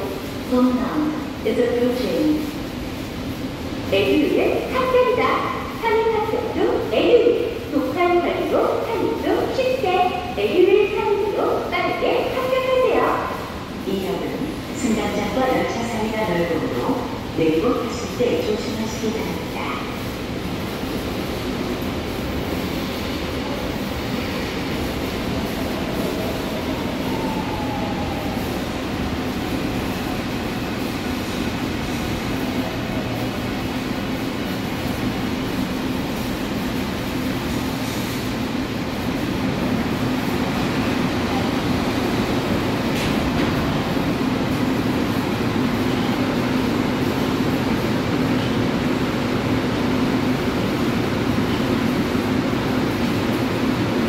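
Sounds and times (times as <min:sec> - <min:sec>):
subway train braking to a stop: 0:00.0 - 0:54.0
train standing humming: 0:00.0 - 0:54.0.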